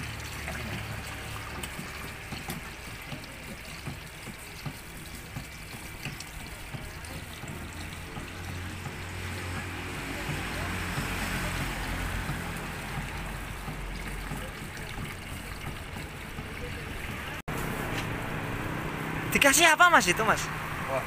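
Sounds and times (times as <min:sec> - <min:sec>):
water pouring into bucket: 0:00.0 - 0:17.8.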